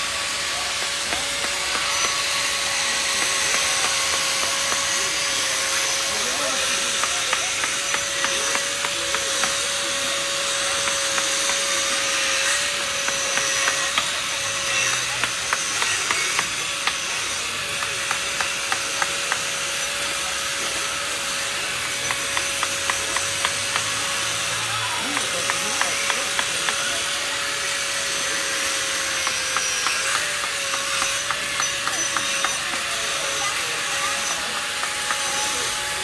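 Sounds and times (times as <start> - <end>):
chisel chipping ice: 0.0 - 36.0.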